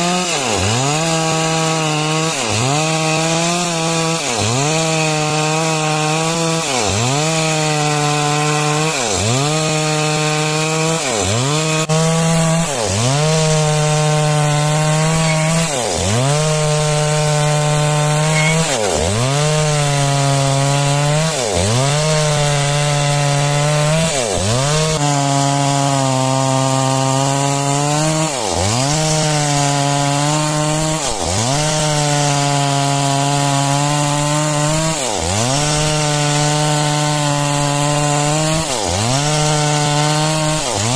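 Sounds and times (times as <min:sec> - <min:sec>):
chainsaw cutting timber: 0:00.0 - 0:40.9.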